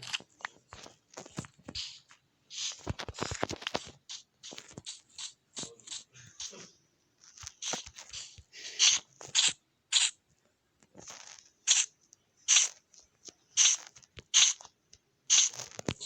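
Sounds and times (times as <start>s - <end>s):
rustling and crinkling: 0.0s - 9.6s, 10.3s - 16.0s.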